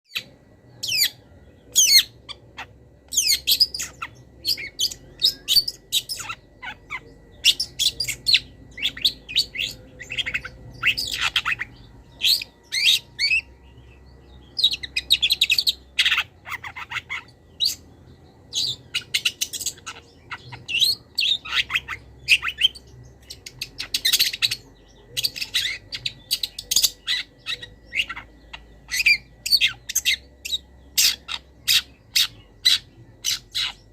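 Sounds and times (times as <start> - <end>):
bird singing chirps and trills: 0.1 - 33.9.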